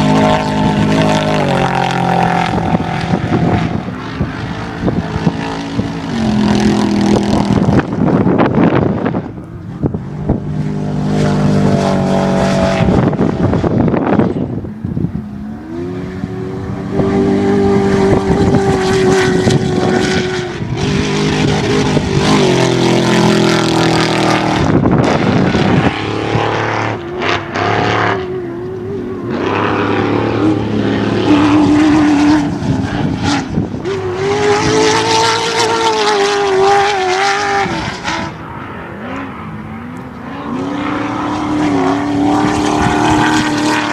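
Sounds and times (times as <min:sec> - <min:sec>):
race vehicle engines revving: 0:00.0 - 0:43.9.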